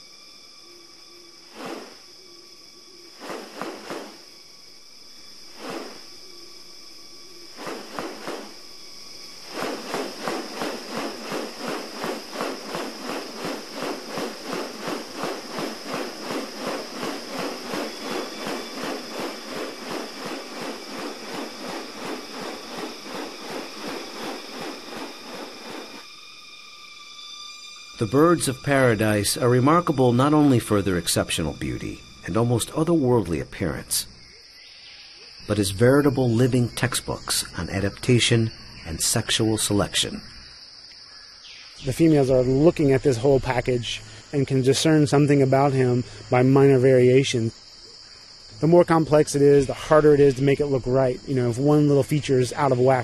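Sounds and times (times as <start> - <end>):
insect drone: 0.0 - 53.0.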